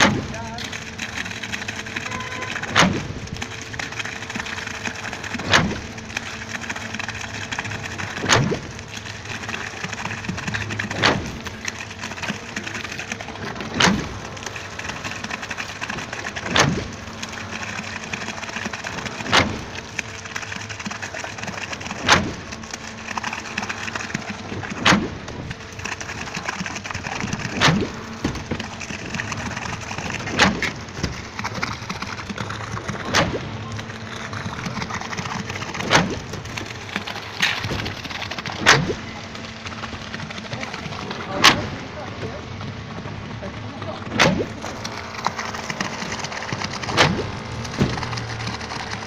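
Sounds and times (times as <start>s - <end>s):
concrete pump running: 0.0s - 49.0s
pump knocking: 0.0s - 49.0s.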